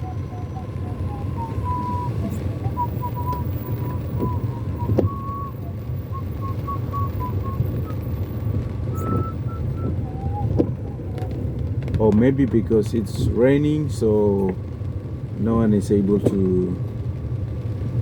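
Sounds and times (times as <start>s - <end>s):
car rumbling in traffic: 0.0s - 18.0s.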